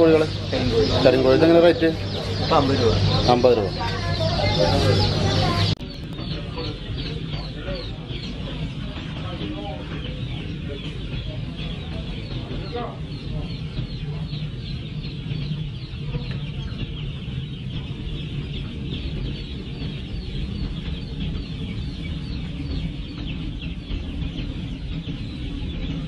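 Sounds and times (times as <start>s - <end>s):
chicks peeping: 0.0s - 26.0s
low steady rumble: 0.0s - 26.0s.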